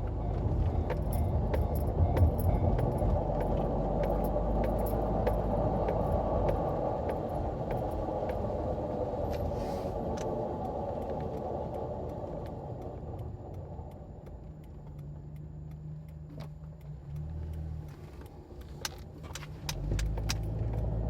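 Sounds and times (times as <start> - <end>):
car driving drone: 0.0 - 21.0
road rumble: 0.0 - 21.0.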